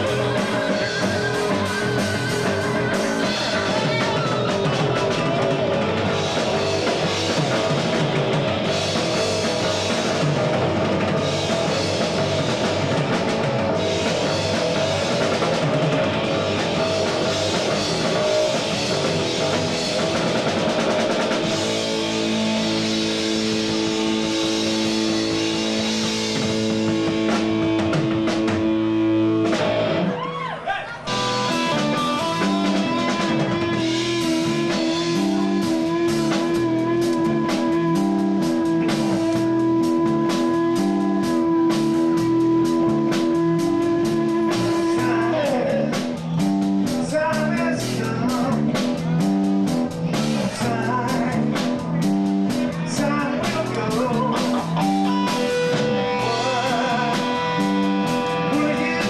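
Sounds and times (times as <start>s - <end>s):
drum beat: 0.0s - 30.3s, 31.1s - 59.0s
bass guitar: 0.0s - 59.0s
electric guitar: 0.0s - 59.0s.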